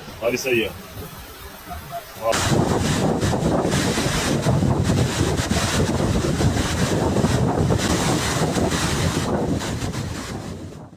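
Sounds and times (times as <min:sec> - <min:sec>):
floodwater rushing: 0:00.0 - 0:10.7
wind buffeting microphone: 0:00.0 - 0:10.9.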